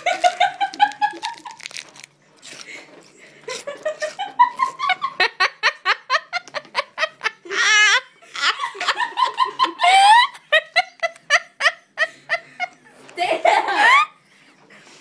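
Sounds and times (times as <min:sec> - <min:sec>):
girls laughing and giggling: 0:00.0 - 0:01.7, 0:03.5 - 0:14.2.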